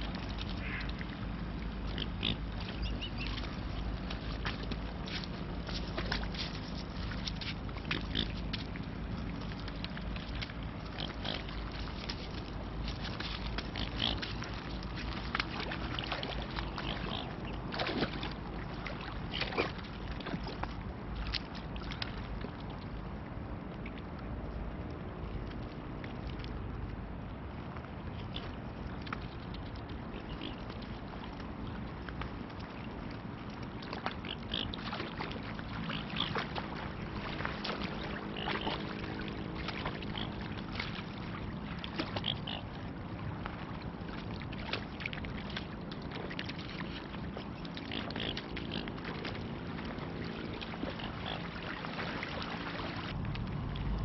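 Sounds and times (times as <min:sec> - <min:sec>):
swan bills clicking and dabbling: 0:00.0 - 0:22.8, 0:28.0 - 0:54.0
water lapping and splashing: 0:00.0 - 0:54.0
wind and water wash: 0:00.0 - 0:54.0.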